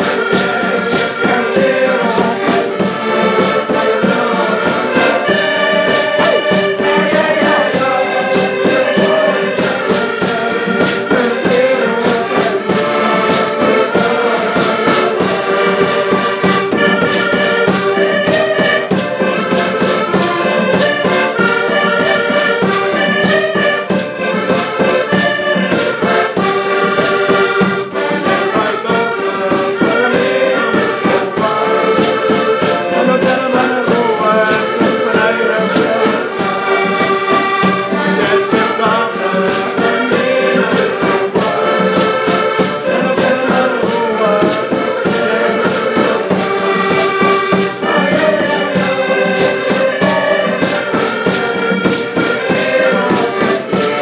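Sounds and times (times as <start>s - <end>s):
button accordions playing: 0.0s - 54.0s.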